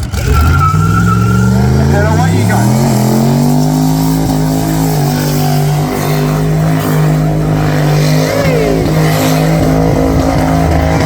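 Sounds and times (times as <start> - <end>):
car engine revving on the limiter: 0.0 - 11.0.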